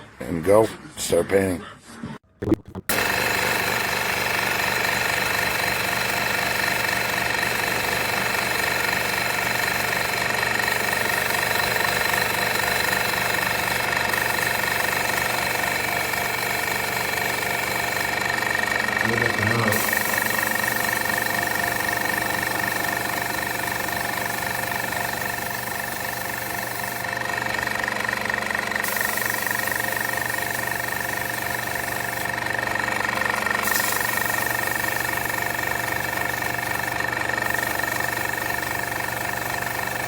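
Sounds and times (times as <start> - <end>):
compressor motor hum and whine: 2.9 - 40.0.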